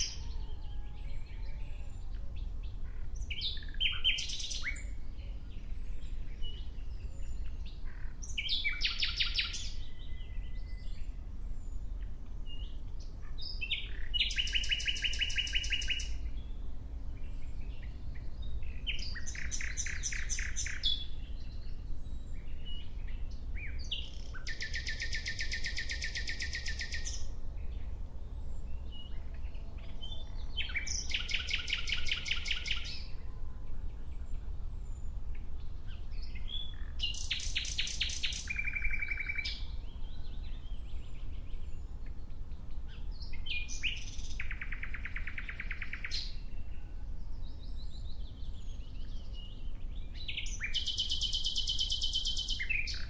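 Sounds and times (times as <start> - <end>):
nightingale singing: 0.0 - 16.7, 17.3 - 27.9, 28.6 - 33.4, 34.1 - 53.0.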